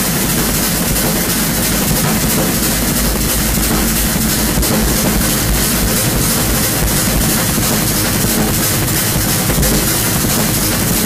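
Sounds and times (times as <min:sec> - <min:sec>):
harsh noise music: 0:00.0 - 0:11.0
heavy low rumble: 0:00.0 - 0:11.0.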